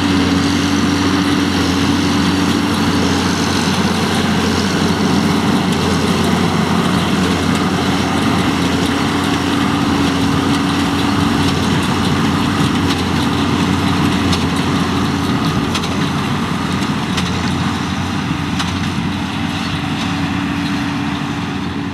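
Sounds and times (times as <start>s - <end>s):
tractor engine running: 0.0s - 21.9s.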